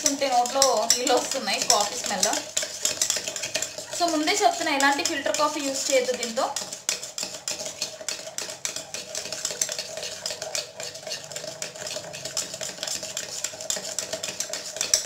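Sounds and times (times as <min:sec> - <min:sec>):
spoon clinking in steel tumbler: 0:00.0 - 0:15.0.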